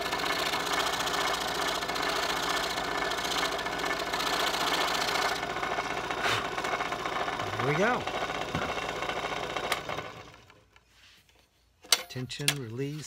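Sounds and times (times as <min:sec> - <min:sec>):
scroll saw blade cutting wood: 0:00.0 - 0:10.5.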